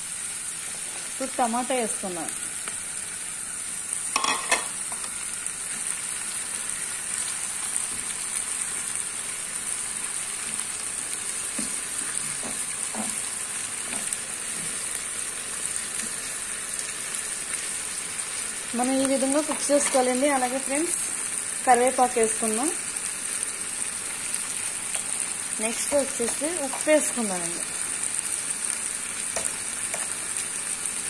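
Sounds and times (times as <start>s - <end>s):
vegetables sizzling in oil: 0.0s - 31.0s.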